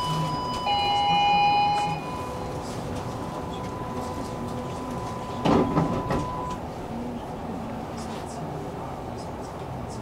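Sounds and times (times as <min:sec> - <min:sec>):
tram rumble: 0:00.0 - 0:10.0.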